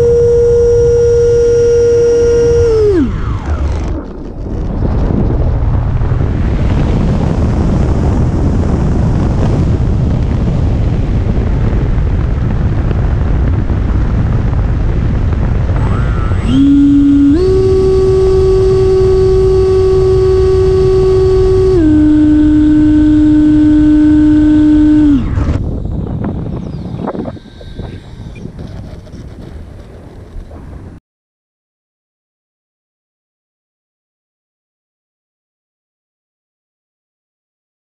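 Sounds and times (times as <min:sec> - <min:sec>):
ducted fan whine: 0:00.0 - 0:31.0.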